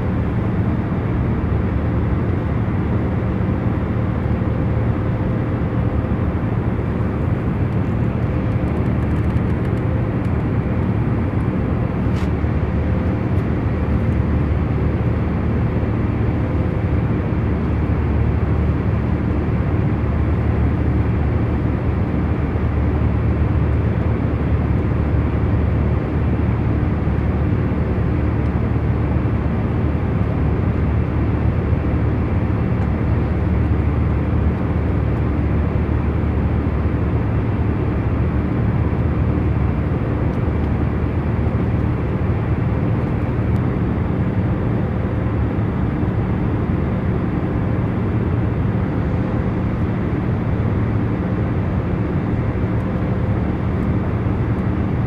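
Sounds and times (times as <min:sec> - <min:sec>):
airliner engine and air drone: 0:00.0 - 0:55.0.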